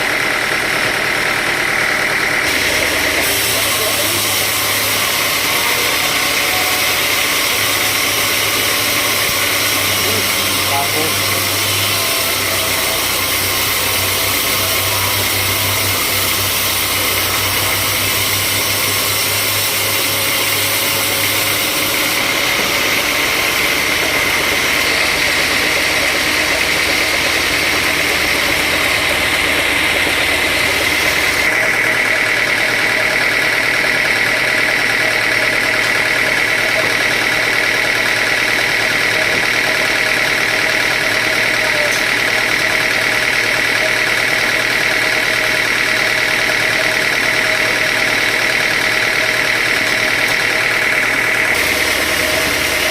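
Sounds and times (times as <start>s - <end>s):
sawmill saw whining: 0.0s - 52.9s.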